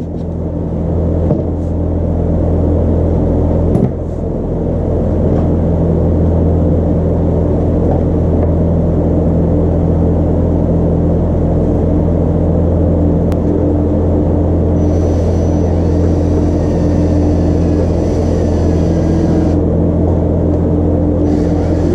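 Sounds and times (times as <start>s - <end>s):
diesel air heater humming: 0.0s - 21.9s.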